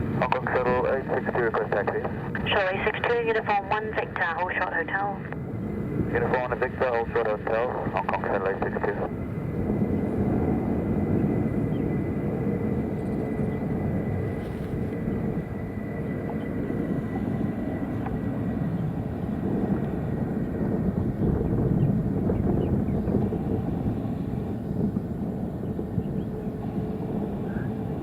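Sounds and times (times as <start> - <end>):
high jet engine whine: 0.0 - 28.0
jet engines rumbling: 0.0 - 28.0.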